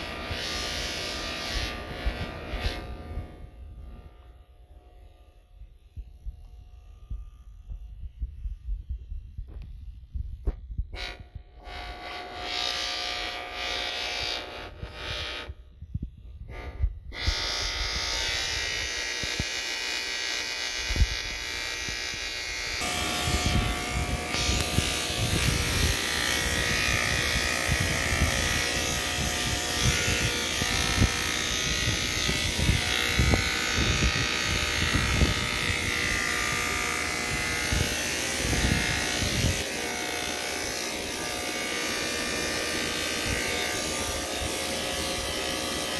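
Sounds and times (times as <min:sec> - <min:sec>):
electric hair clippers buzzing: 0:00.0 - 0:45.9.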